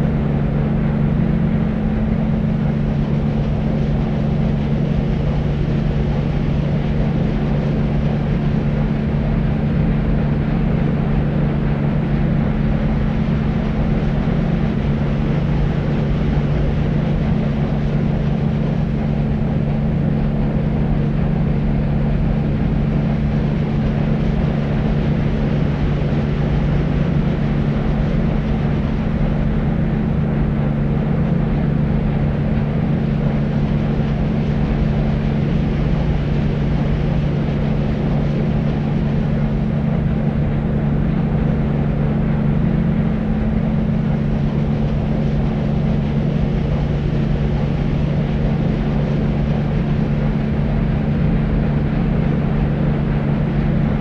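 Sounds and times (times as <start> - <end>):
deep white noise: 0.0 - 54.0
low even drone: 0.0 - 54.0.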